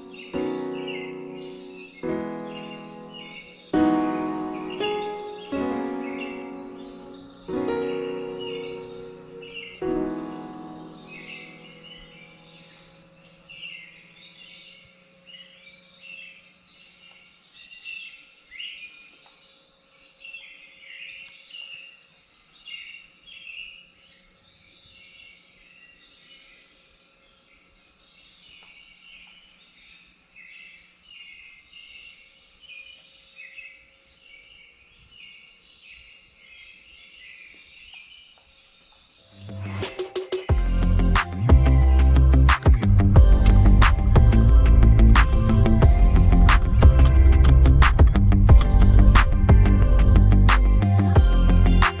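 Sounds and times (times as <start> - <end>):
birds chirping and singing: 0.0 - 52.0.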